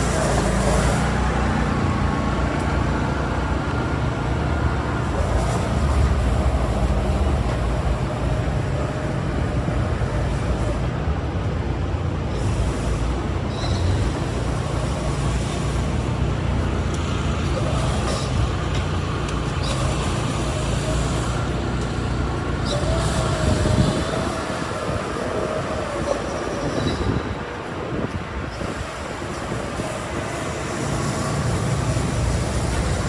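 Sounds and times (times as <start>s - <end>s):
moving vehicle rumble: 0.0s - 33.0s.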